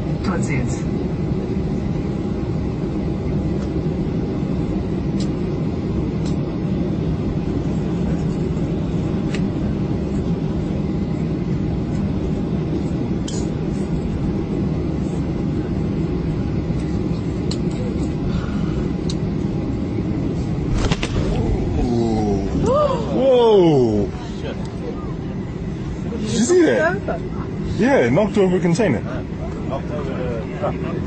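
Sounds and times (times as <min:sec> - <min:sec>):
jet engines in airliner cabin: 0:00.0 - 0:31.0.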